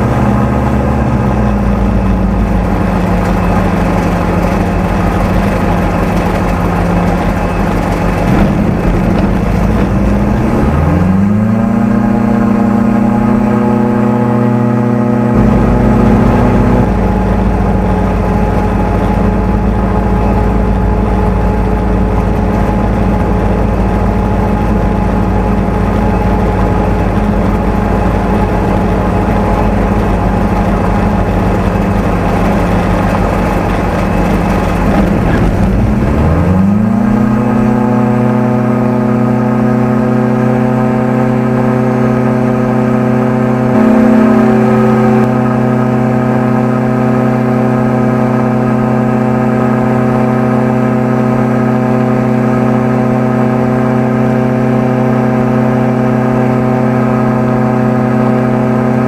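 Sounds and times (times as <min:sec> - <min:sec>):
microlight engine: 0:00.0 - 0:59.0.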